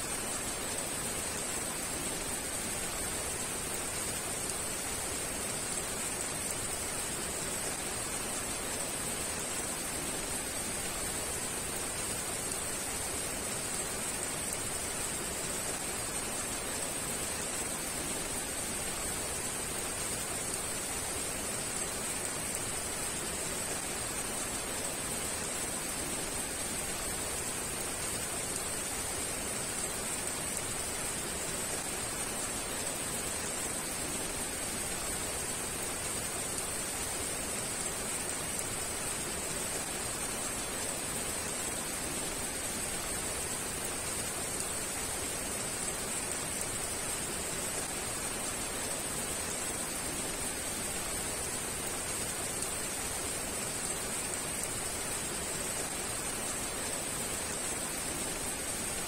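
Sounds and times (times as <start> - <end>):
heavy rain hiss: 0.0 - 59.0.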